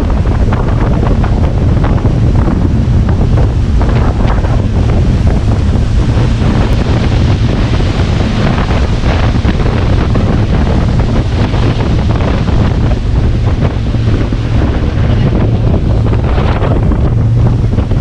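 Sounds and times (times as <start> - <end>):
low drone: 0.0 - 18.0
rushing water: 0.0 - 18.0
wind buffeting microphone: 0.0 - 18.0.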